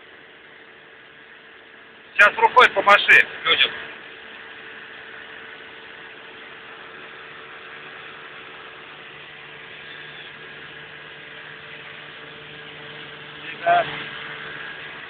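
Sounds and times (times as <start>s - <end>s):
small boat motor humming: 0.0s - 15.0s.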